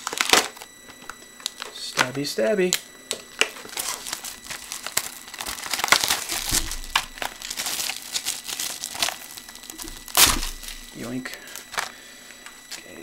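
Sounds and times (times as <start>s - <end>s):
plastic wrap crinkling: 0.0s - 2.1s, 2.7s - 12.8s.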